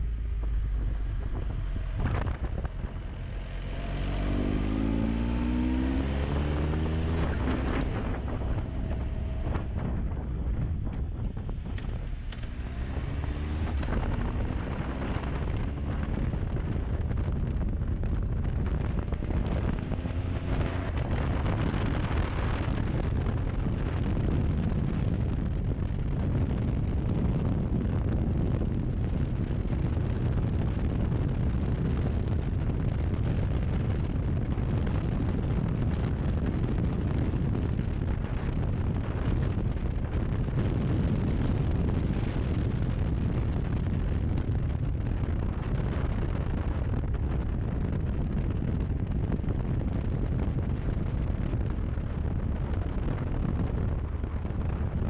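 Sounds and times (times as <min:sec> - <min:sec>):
motorcycle engine accelerating: 0:00.0 - 0:55.0
wind rushing on microphone: 0:00.0 - 0:55.0.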